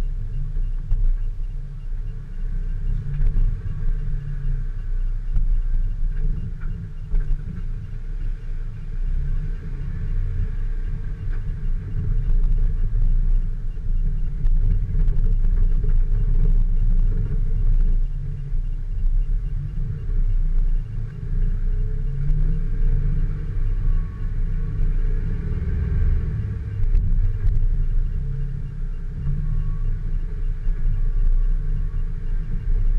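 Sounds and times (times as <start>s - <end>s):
vehicle engine low rumble: 0.0s - 32.9s.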